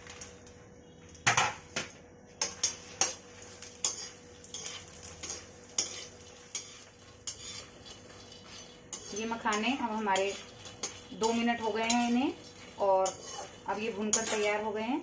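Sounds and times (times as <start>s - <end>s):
metal spoon stirring in pan: 2.4s - 15.0s.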